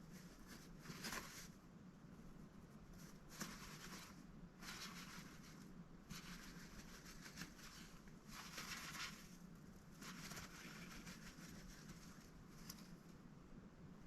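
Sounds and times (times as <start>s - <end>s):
scratchy feather rustling: 0.0s - 1.6s, 2.6s - 13.2s.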